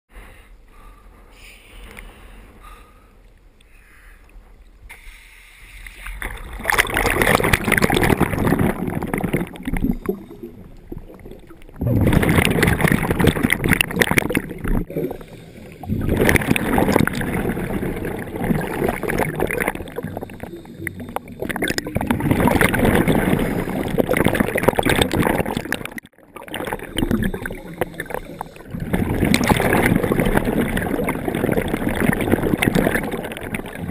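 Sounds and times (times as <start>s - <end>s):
underwater regulator bubbles gurgling: 6.0s - 33.9s.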